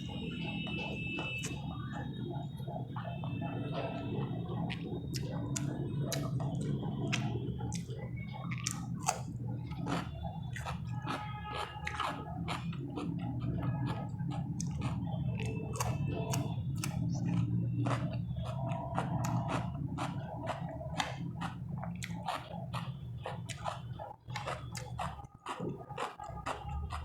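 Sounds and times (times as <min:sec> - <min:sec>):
low steady hum: 0:00.0 - 0:27.0
person chewing food: 0:00.0 - 0:27.0.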